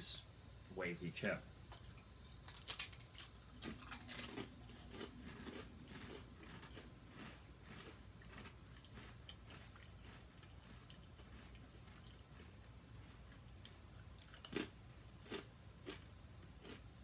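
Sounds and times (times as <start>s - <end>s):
chips crunching while chewed: 2.3s - 16.8s.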